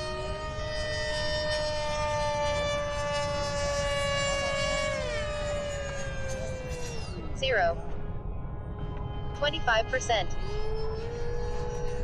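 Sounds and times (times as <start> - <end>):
electric ducted fan whining: 0.0 - 12.0
wind rumble on microphone: 0.0 - 12.0.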